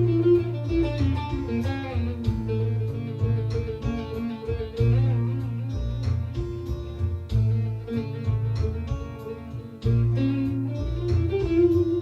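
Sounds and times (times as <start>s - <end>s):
plucked lute improvisation: 0.0s - 12.0s.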